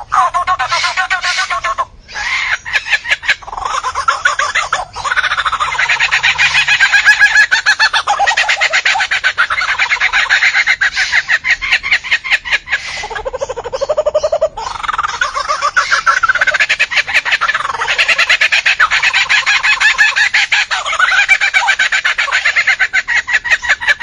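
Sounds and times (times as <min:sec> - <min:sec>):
lyrebird rattling call: 0:00.0 - 0:24.0.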